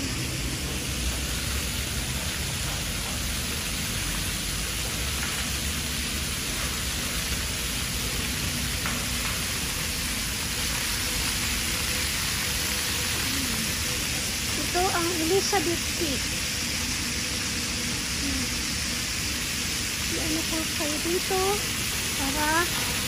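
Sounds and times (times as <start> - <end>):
fountain water splashing on paving: 0.0 - 23.0.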